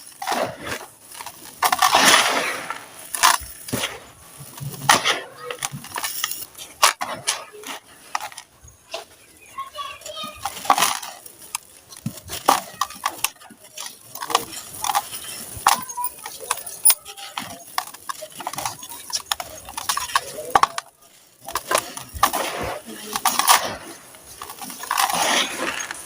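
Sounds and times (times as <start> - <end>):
cement chunks crushed and crumbling: 0.0 - 26.0.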